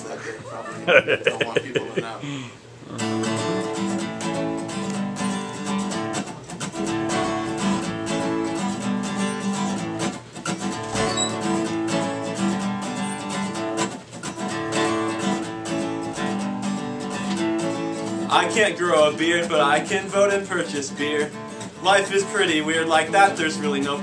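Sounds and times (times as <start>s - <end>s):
acoustic guitar strumming: 2.8s - 24.0s.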